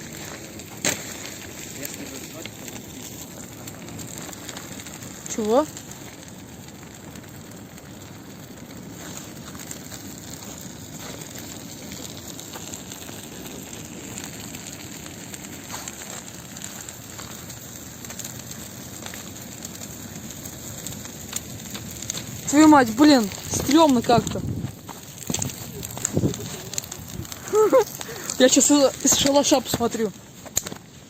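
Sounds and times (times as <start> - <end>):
bonfire hissing and crackling: 0.0 - 31.0.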